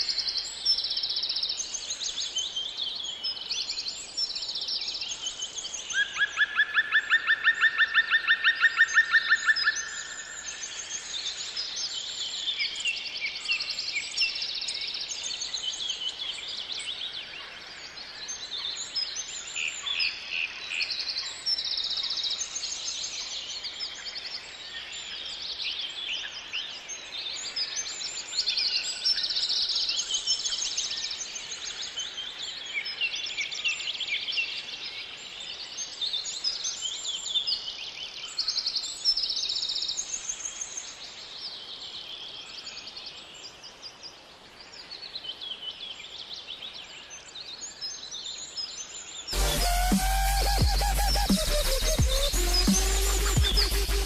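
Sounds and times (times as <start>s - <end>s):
songbirds singing: 0.0s - 51.3s.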